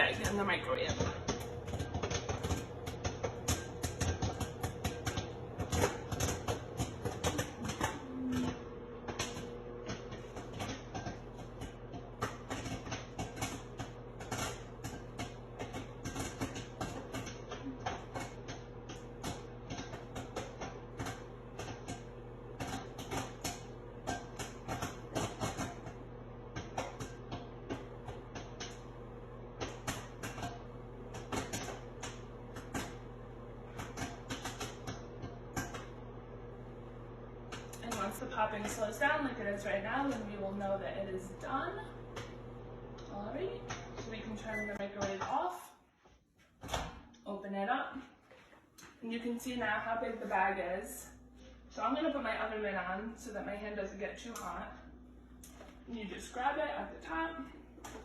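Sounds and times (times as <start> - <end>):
popcorn popping: 0.0 - 45.7, 54.0 - 58.0
microwave oven hum: 0.0 - 58.0.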